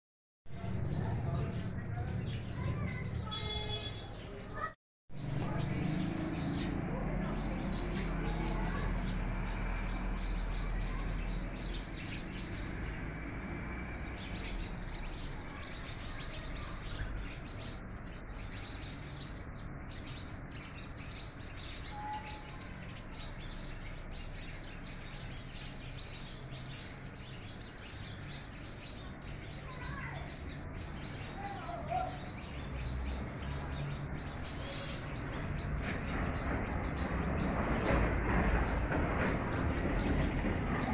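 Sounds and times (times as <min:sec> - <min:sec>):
sparrows chirping: 0:00.5 - 0:40.9.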